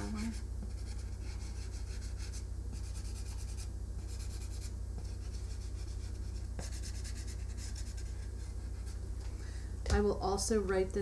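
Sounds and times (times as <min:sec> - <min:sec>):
marker scratching on foam: 0:00.0 - 0:09.0
low hum: 0:00.0 - 0:11.0.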